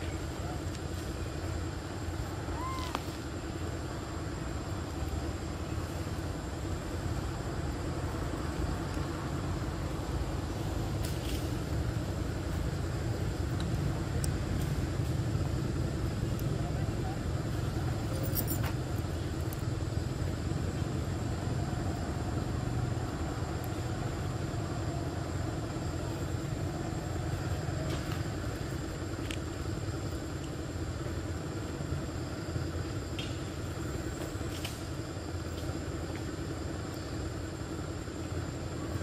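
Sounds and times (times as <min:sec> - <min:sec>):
low outdoor rumble: 0:00.0 - 0:39.0.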